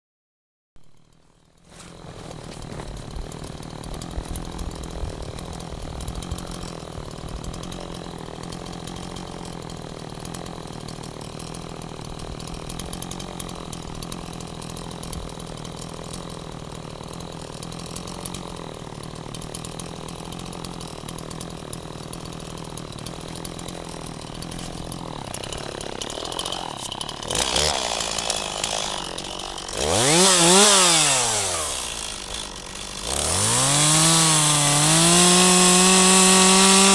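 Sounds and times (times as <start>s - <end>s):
chainsaw engine revving: 0.9s - 36.9s.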